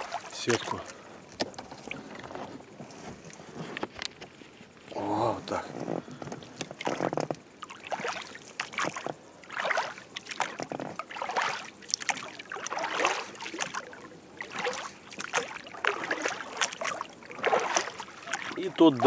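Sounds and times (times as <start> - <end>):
oars splashing through water: 0.0 - 3.9, 4.8 - 19.0.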